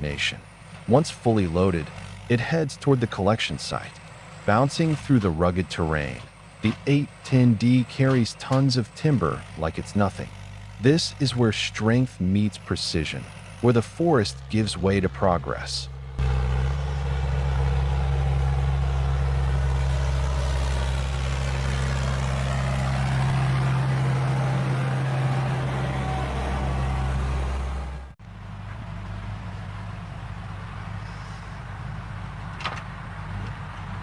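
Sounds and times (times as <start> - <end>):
diesel engine under load: 0.0 - 34.0
quieter engine running: 0.0 - 34.0.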